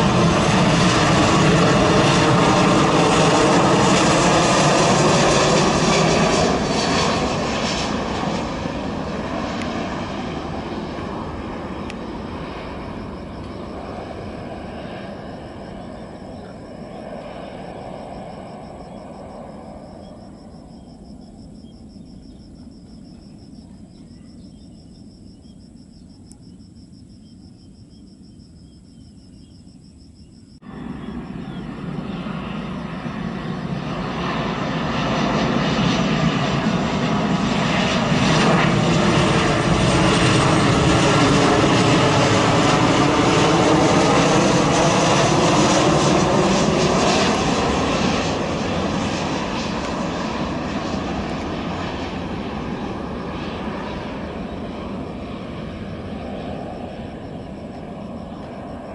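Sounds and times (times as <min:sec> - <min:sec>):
high insect chirr: 0:00.0 - 0:58.9
jet airliner passing overhead: 0:00.0 - 0:58.9.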